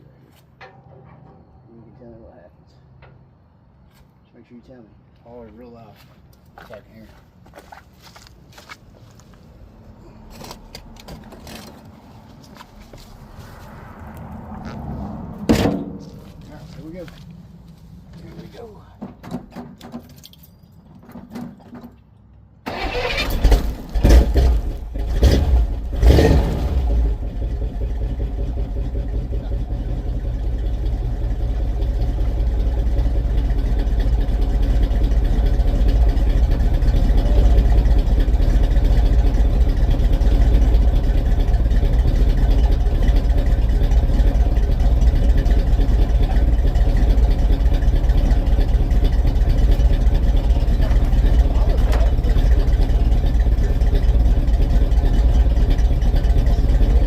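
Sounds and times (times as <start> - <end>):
truck engine starting and running: 0.0 - 4.2, 7.4 - 57.0.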